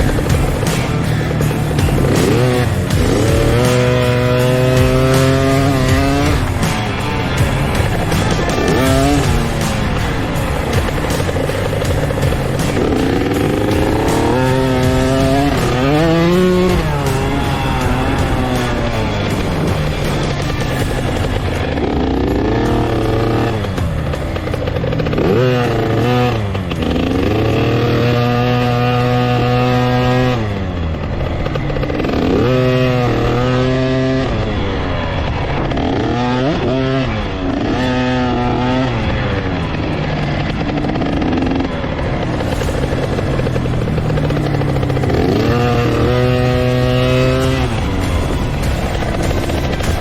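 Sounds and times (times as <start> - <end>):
two-stroke motocross engine revving: 0.0 - 50.0.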